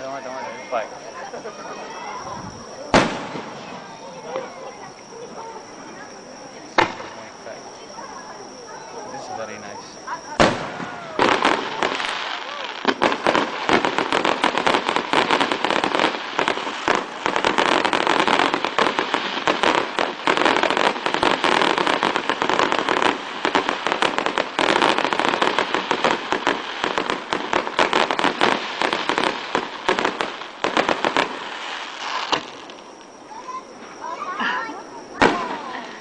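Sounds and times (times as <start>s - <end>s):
fireworks crackling and popping: 0.0s - 36.0s.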